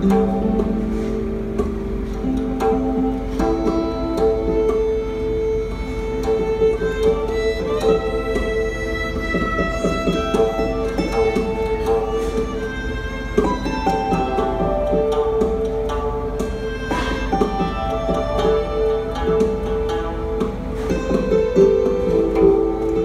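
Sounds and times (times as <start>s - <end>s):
guzheng plucked: 0.0s - 23.0s
hammered dulcimer: 0.0s - 23.0s
violin long notes: 0.0s - 23.0s.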